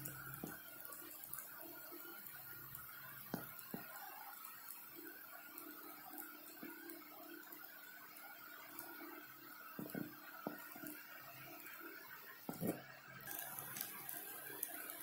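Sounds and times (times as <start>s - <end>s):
batter sizzling on hot griddle: 0.0s - 15.0s.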